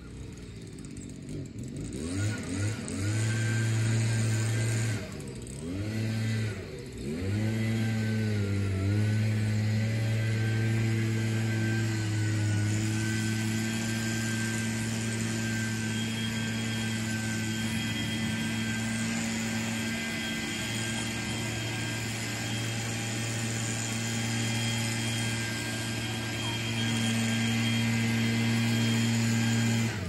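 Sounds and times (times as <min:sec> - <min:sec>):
leaf blower motor droning: 0:00.0 - 0:30.0.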